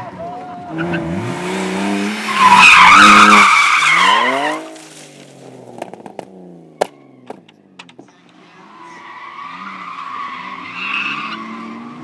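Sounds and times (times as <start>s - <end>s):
car tyres squealing: 0.6s - 12.0s
car engine revving: 0.7s - 12.0s.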